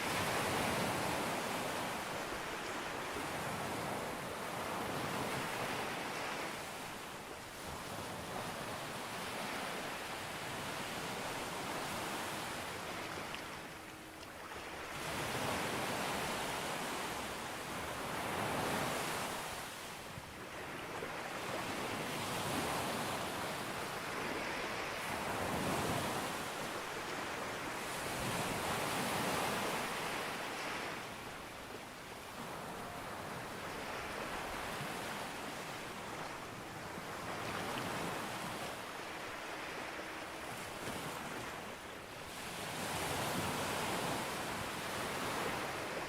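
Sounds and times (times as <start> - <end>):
sea waves breaking on beach: 0.0 - 31.6, 32.2 - 46.0.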